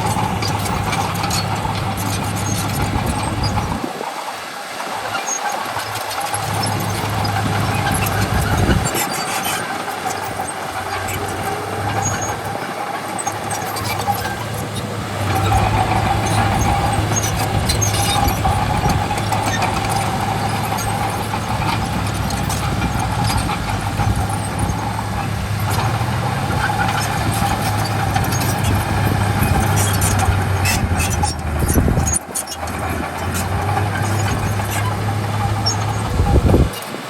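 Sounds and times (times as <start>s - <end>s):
bulldozer diesel engine: 0.0s - 37.0s.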